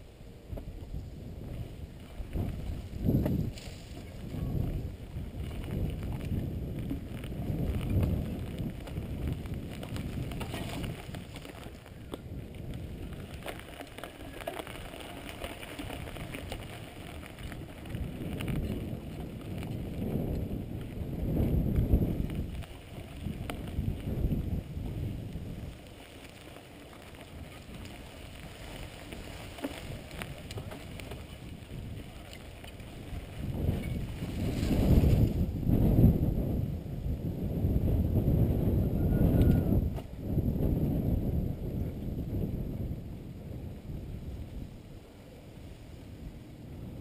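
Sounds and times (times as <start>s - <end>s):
bike rattling over rough ground: 0.0s - 45.0s
wind rumbling on microphone: 0.0s - 47.0s.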